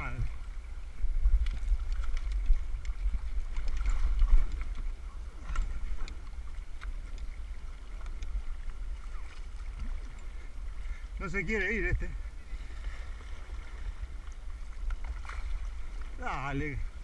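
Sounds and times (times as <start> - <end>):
paddle splashes and hull knocks: 0.0 - 17.0
wind rumble on microphone: 0.0 - 17.0.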